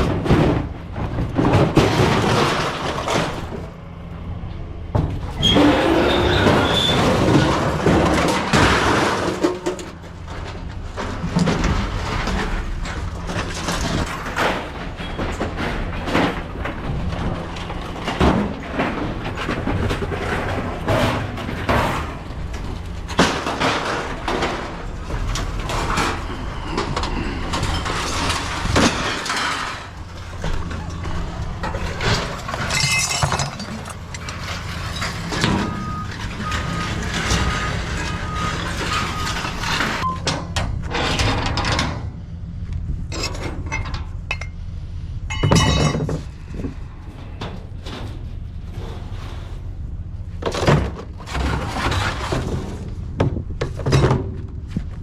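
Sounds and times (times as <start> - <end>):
low engine hum: 0.0 - 40.9, 41.7 - 55.0
scrap metal clanging and crashing: 0.0 - 55.0.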